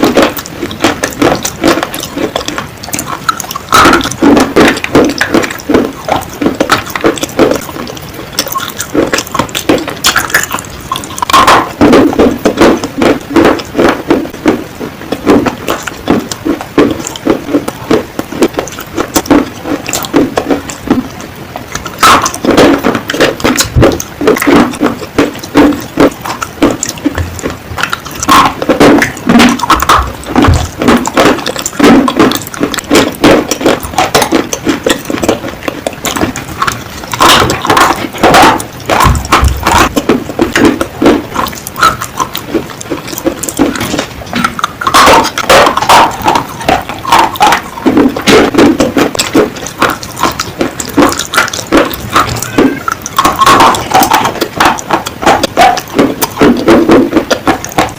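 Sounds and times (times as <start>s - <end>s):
crunchy clay being chewed: 0.0s - 57.9s.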